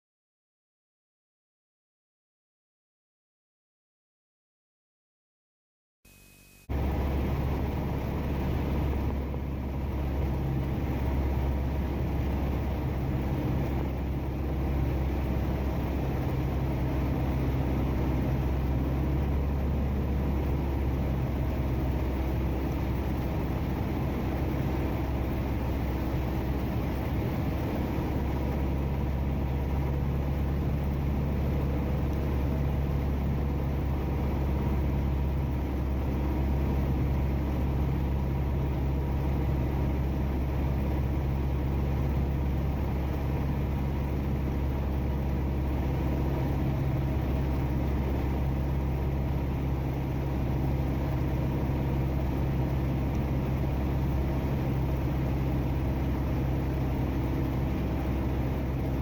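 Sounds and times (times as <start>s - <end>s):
aircraft engine and propeller drone: 6.7s - 59.0s.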